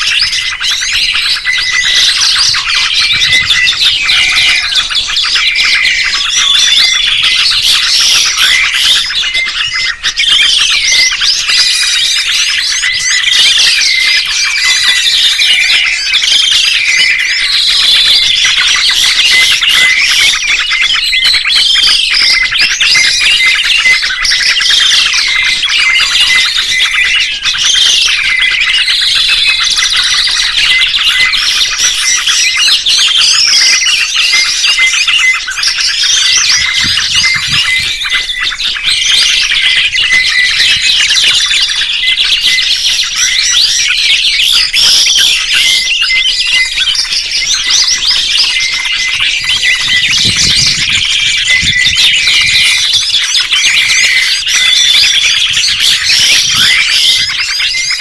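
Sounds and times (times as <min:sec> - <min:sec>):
curving bird call: 0:00.0 - 0:58.0
songbirds chirping chorus: 0:00.0 - 0:58.0.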